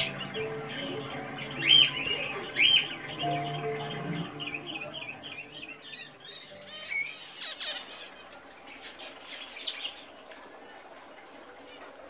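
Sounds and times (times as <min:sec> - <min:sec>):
finches chirping: 0:00.0 - 0:10.2.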